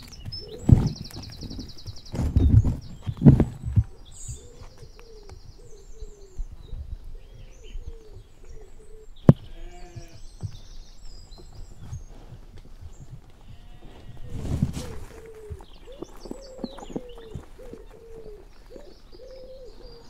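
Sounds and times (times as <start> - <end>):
faint chirping: 0.0 - 20.0.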